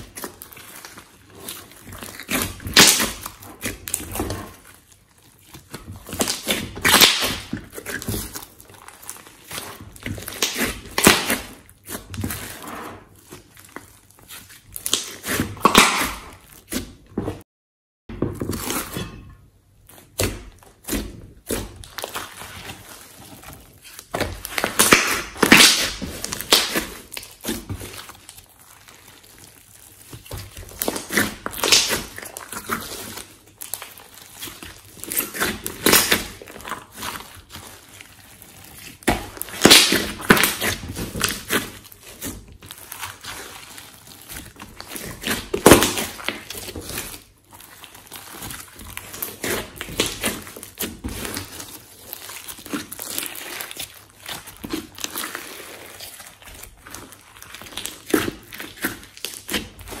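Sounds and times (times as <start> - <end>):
slime squelching: 0.0 - 17.4, 18.4 - 60.0.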